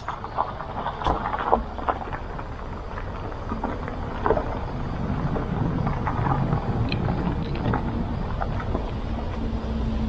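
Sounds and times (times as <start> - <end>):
car rumbling over gravel: 0.0 - 10.0
tyres crunching on stones: 0.0 - 10.0.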